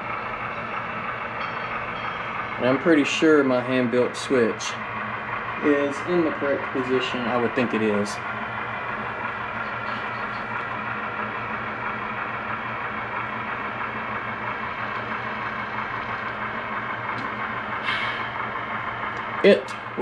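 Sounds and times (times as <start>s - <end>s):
model locomotive engine sound: 0.0s - 20.0s.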